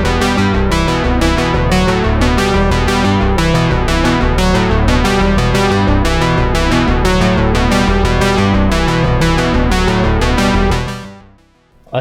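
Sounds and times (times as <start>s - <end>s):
keyboard and synthesizer music: 0.0s - 11.8s.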